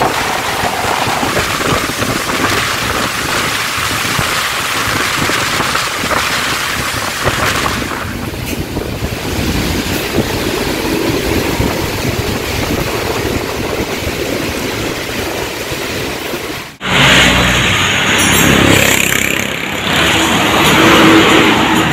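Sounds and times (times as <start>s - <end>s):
heavy rain hissing: 0.0s - 18.0s
bus diesel engine: 0.0s - 21.9s.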